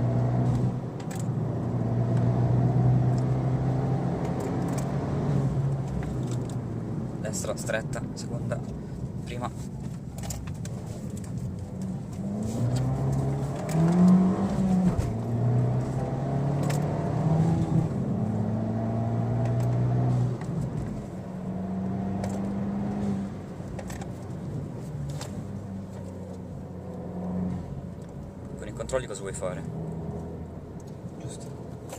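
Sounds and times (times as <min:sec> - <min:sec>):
car engine accelerating: 0:00.0 - 0:09.0, 0:10.6 - 0:31.9.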